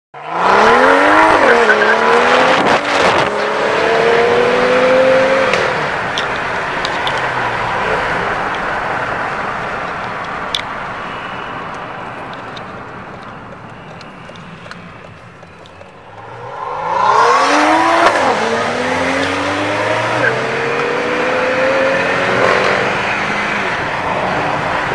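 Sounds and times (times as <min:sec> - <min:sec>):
car engine accelerating hard: 0:00.2 - 0:14.8, 0:15.4 - 0:24.9
road noise: 0:00.2 - 0:24.9.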